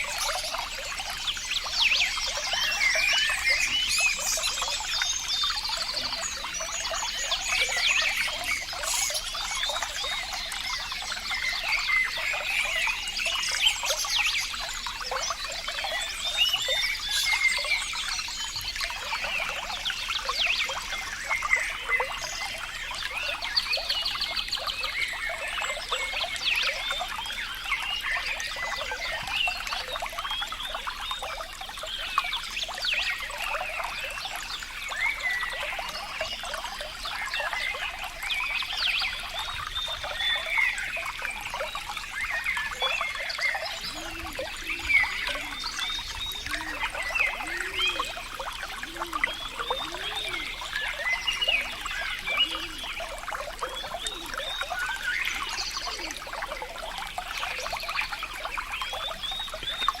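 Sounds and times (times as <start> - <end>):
water trickling and burbling: 0.0 - 60.0.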